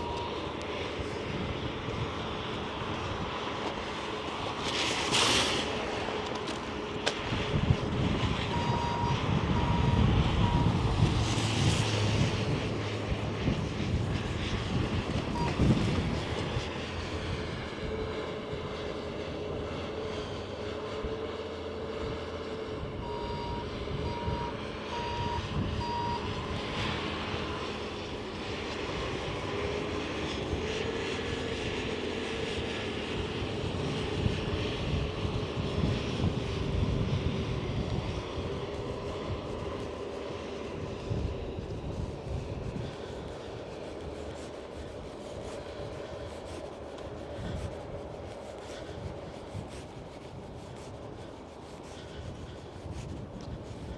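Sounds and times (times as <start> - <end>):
airplane engine passing overhead: 0.0 - 53.9
road traffic rumbling: 0.0 - 53.9.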